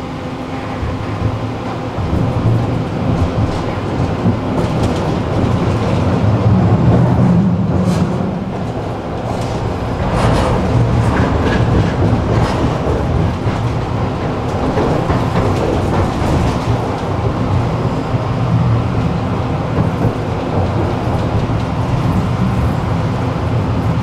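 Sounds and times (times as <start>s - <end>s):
tram wheels rumbling: 0.0s - 24.0s
wheels clicking over rail joints: 0.8s - 24.0s.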